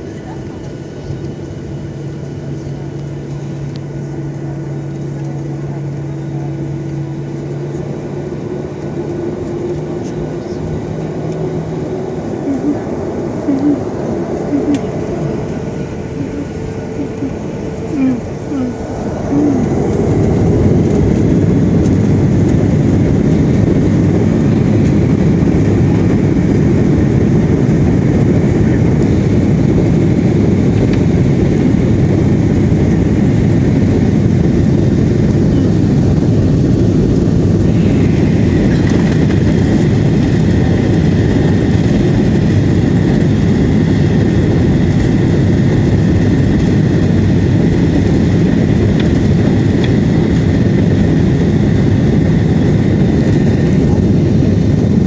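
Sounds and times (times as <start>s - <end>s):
airflow around fuselage: 0.0s - 55.0s
jet engines rushing: 0.0s - 55.0s.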